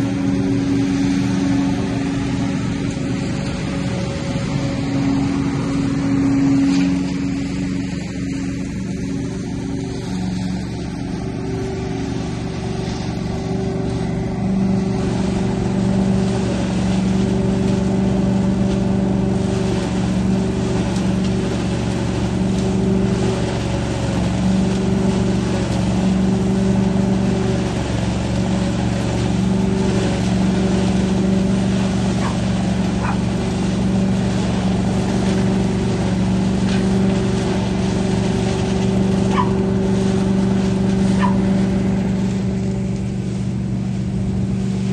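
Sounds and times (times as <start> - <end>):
leaf vacuum droning hum: 0.0 - 44.9.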